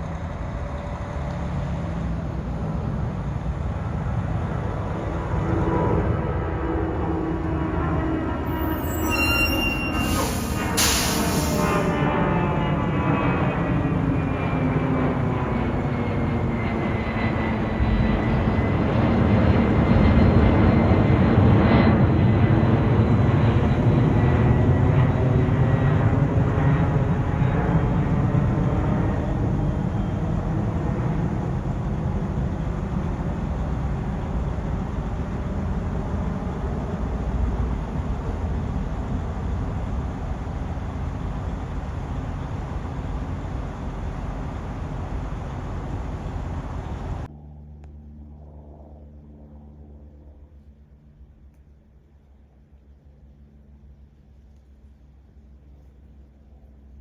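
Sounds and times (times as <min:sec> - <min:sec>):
jet airliner engines roaring: 0:00.0 - 0:54.8.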